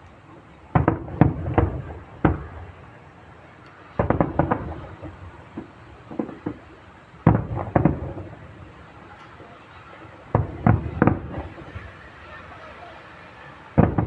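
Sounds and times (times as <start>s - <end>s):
fireworks bangs echoing: 0.0s - 14.0s.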